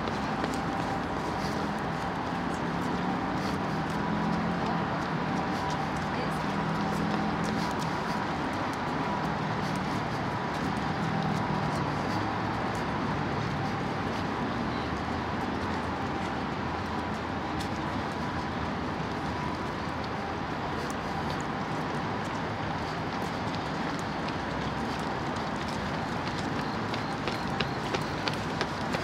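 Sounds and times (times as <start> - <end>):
city ambience: 0.0 - 29.0.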